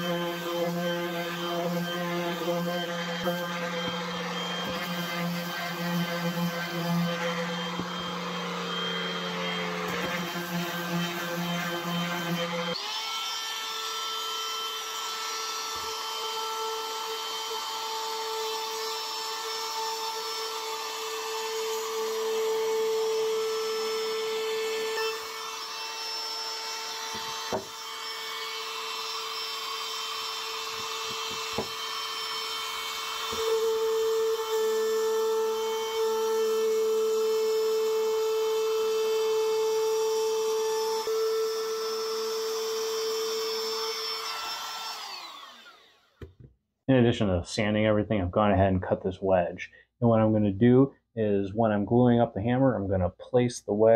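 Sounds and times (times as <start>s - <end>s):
power tool whining on wood: 0.0s - 46.5s.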